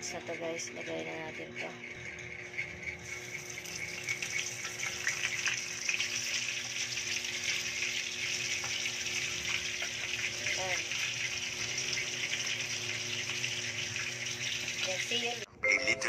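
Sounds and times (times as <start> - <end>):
chicken frying in hot oil: 1.9 - 15.5.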